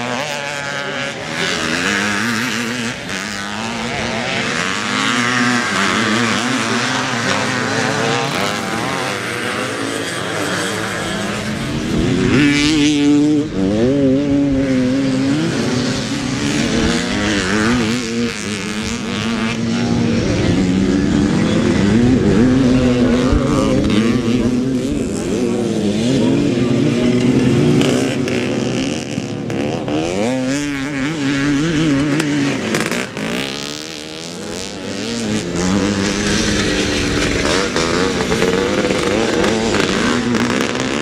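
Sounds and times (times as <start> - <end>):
motocross bikes revving: 0.0 - 41.0.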